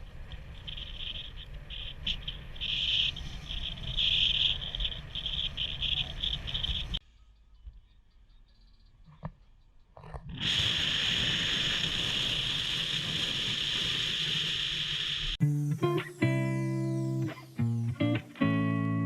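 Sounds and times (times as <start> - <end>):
insects chirring: 0.0 - 9.8, 10.4 - 18.7.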